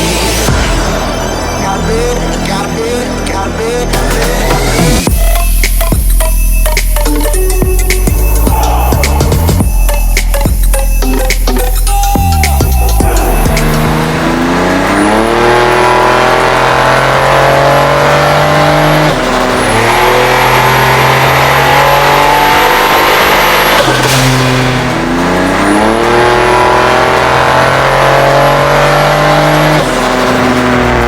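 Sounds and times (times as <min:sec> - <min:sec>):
car engine revving: 0:00.0 - 0:31.0
turbo whine: 0:00.0 - 0:31.0.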